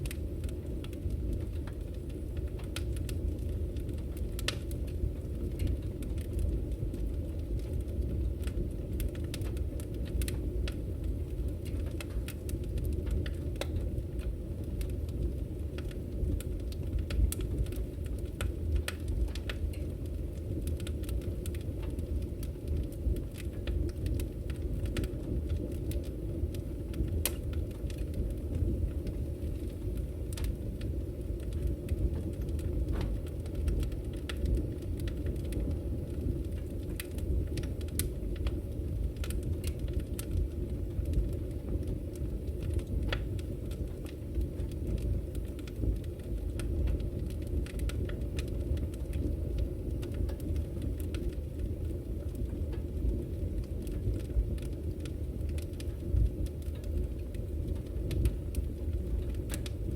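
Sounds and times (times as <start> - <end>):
firewood crackling and popping: 0.0 - 59.9
low roar of flames: 0.0 - 59.9.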